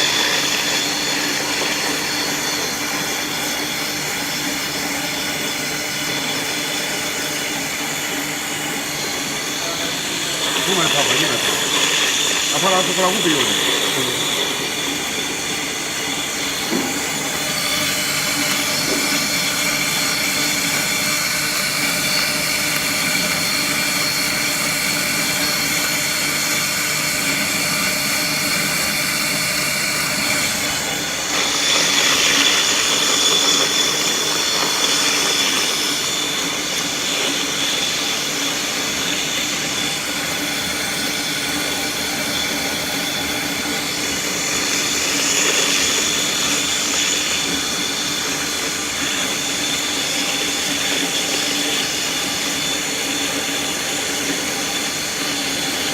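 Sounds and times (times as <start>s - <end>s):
electric grinder motor whining: 0.0s - 55.9s.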